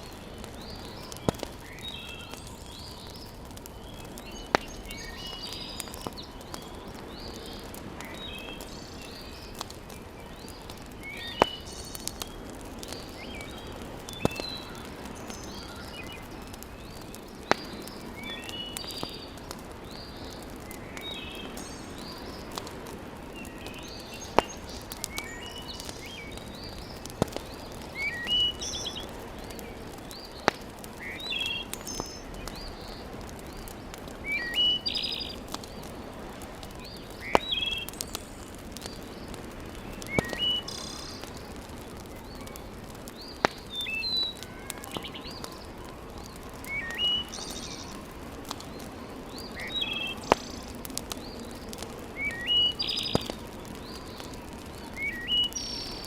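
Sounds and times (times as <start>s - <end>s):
fire popping: 0.0s - 56.0s
small birds chirping: 0.0s - 56.0s
wood fire crackling: 0.0s - 56.0s.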